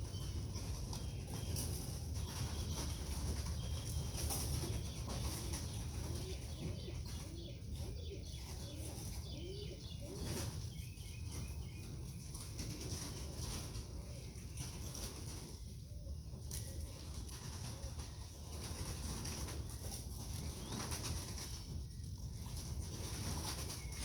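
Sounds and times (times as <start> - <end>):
pigeons cooing: 0.0 - 21.7.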